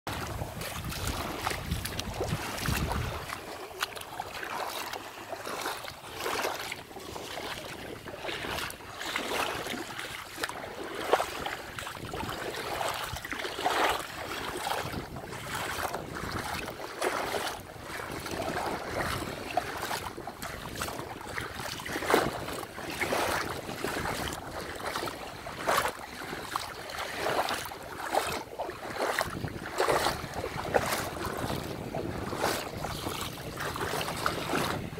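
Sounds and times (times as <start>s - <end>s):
bare feet splashing in water: 0.1s - 34.9s
small waves washing: 0.1s - 34.9s
wind rumble on microphone: 0.1s - 34.9s.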